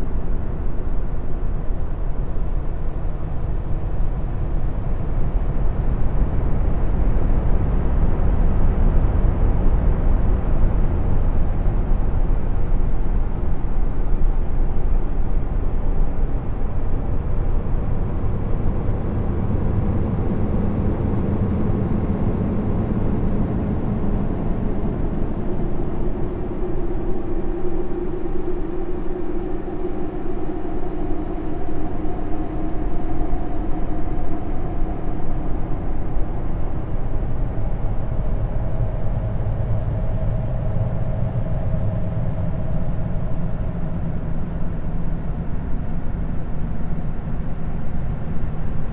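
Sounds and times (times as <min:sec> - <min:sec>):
low rumble drone: 0:00.0 - 0:48.9.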